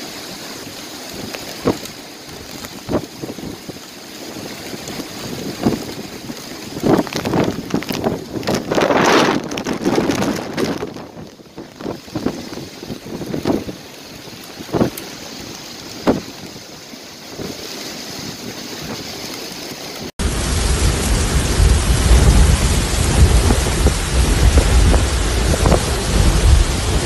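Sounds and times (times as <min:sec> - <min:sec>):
heavy rain: 0:00.0 - 0:27.0
wind and water: 0:00.0 - 0:27.0
wind buffeting microphone: 0:00.7 - 0:27.0.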